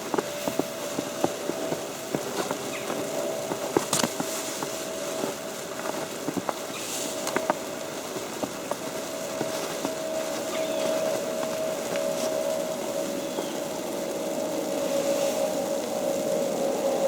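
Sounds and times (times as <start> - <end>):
snow ticking on an umbrella: 0.0 - 17.0
steady hiss: 0.0 - 17.0
steady hum: 0.0 - 17.0.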